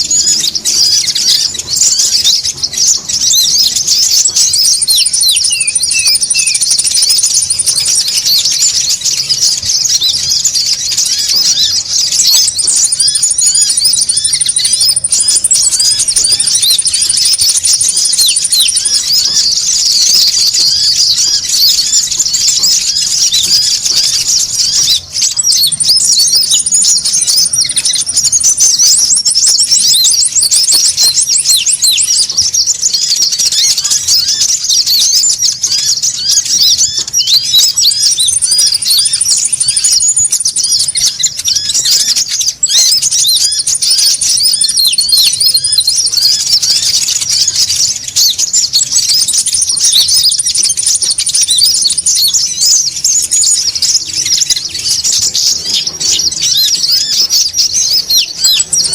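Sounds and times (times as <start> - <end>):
fast high bird trill: 0.0 - 58.9
songbird flock chattering: 0.0 - 58.9.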